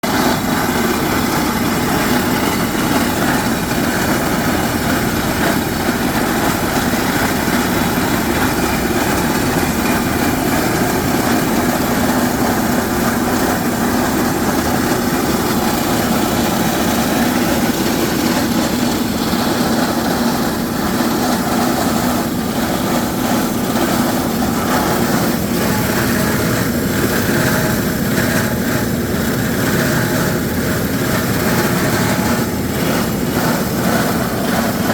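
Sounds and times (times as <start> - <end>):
rock drilling rig running: 0.0 - 34.9.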